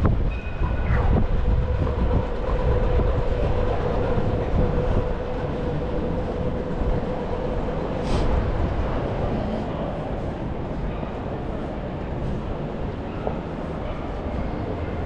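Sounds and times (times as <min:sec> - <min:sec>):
wind on microphone: 0:00.0 - 0:13.0
low street rumble: 0:00.0 - 0:15.0.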